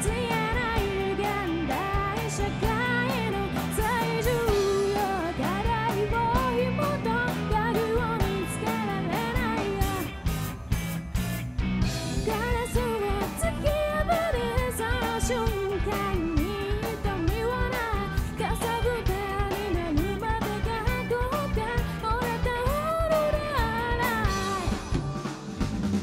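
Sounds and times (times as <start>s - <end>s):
woman singing: 0.0s - 10.3s, 12.1s - 25.4s
drums: 0.0s - 26.0s
electric guitars: 0.0s - 26.0s.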